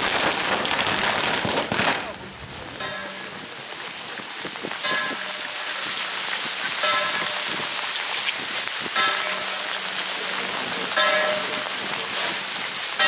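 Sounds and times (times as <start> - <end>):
heavy rain on umbrellas: 0.0 - 13.0.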